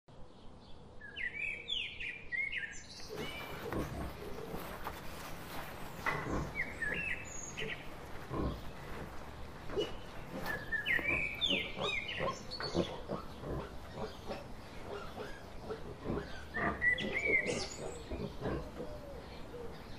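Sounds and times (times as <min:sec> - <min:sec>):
birds chirping: 0:00.1 - 0:19.9
boar grunting and snuffling: 0:03.0 - 0:19.9.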